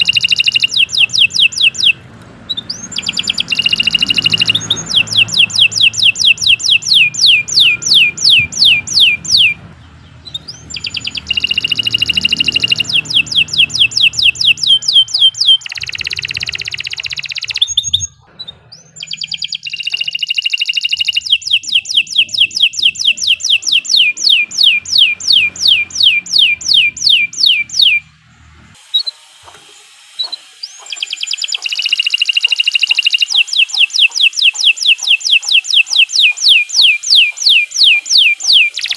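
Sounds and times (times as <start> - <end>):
canary singing: 0.0 - 29.3, 30.0 - 38.9.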